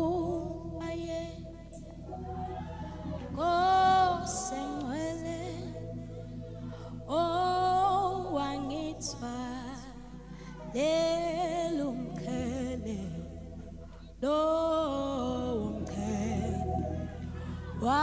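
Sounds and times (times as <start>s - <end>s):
woman singing with vibrato: 0.0s - 6.0s, 7.1s - 10.0s, 10.6s - 13.5s, 14.2s - 18.0s
soft low accompaniment: 0.0s - 18.0s.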